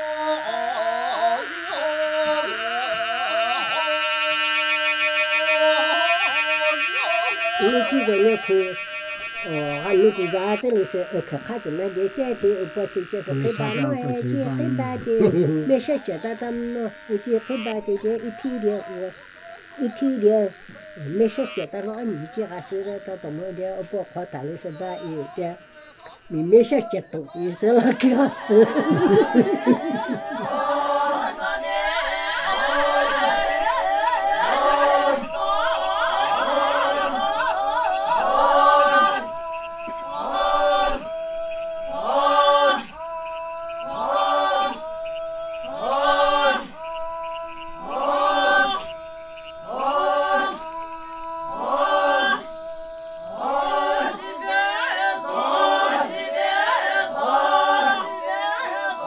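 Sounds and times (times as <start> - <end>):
group singing a cappella: 0.0 - 59.0.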